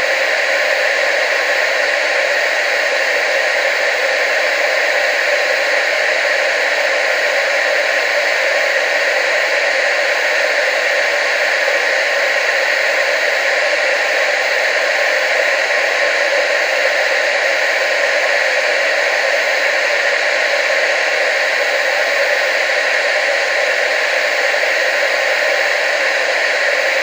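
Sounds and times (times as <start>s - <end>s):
television static hiss: 0.0s - 27.0s.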